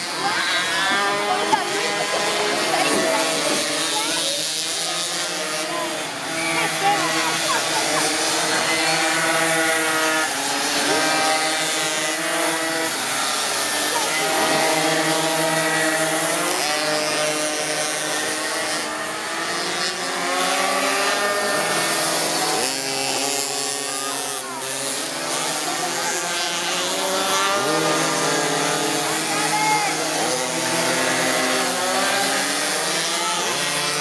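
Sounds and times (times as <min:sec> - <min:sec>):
small engines buzzing at high revs: 0:00.0 - 0:34.0.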